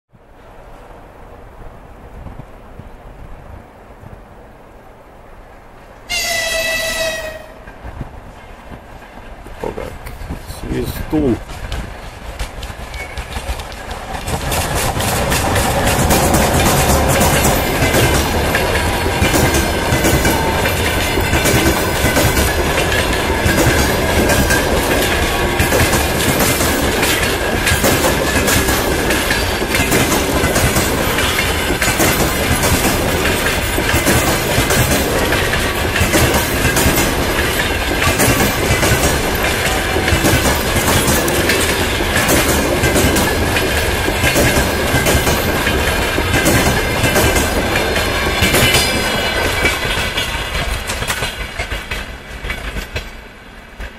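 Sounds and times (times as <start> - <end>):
train wheels clacking over rail joints: 6.1 - 53.9.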